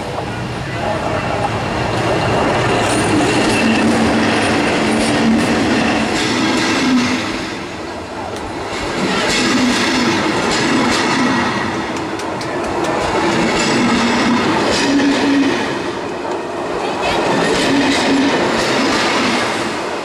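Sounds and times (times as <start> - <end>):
train wheels clattering on rails: 1.4 - 20.0.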